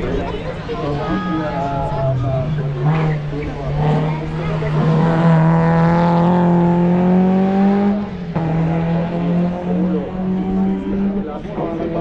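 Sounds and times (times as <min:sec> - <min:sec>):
race car engine running hard: 0:00.0 - 0:12.0.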